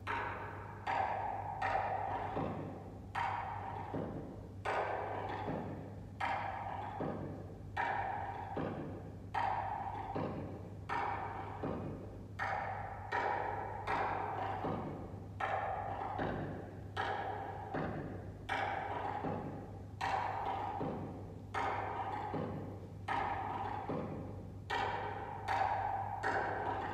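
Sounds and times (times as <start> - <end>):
percussion beat: 0.0 - 26.9.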